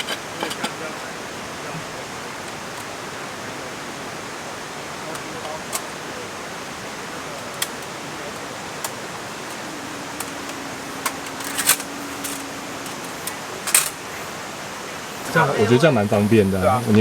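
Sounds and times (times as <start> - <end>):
faint low hum: 0.0 - 17.0
mountain stream rushing: 0.0 - 17.0.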